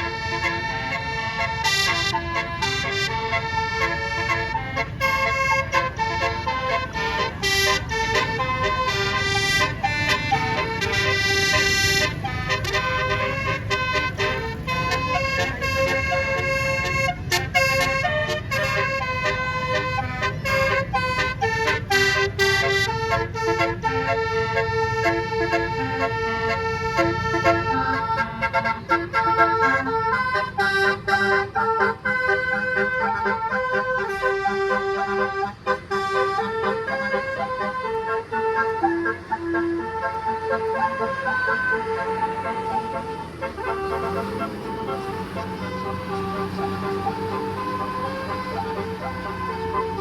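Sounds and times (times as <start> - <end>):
multi-tone musical air horn: 0.0 - 50.0
rumble of engines and traffic: 0.0 - 50.0.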